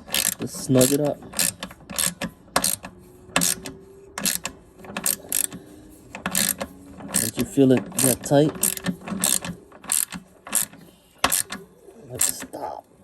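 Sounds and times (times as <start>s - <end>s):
ratchet wrench clicking: 0.0s - 5.6s, 6.2s - 11.6s, 12.2s - 12.5s.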